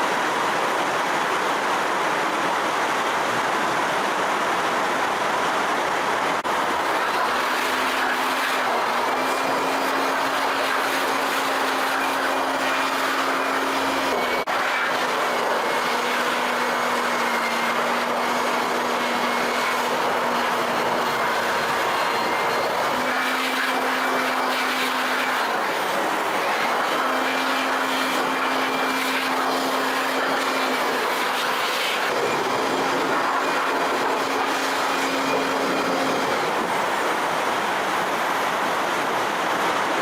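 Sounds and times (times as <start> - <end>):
mechanical running noise: 6.5 - 38.7.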